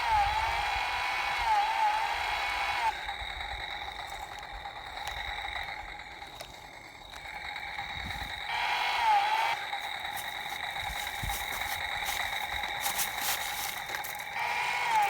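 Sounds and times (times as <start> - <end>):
toy chainsaw electronic buzzing: 0.0 - 15.0.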